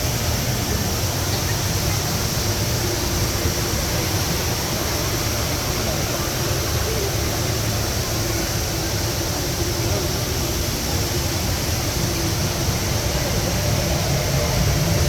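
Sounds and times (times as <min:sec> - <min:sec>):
indoor waterfall roaring: 0:00.0 - 0:15.0
murmur of voices: 0:00.0 - 0:15.0.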